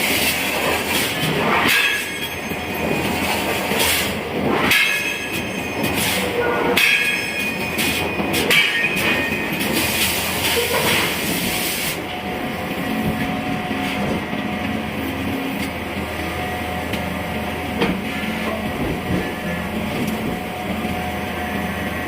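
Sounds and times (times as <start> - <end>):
heavy machinery droning: 0.0 - 22.0.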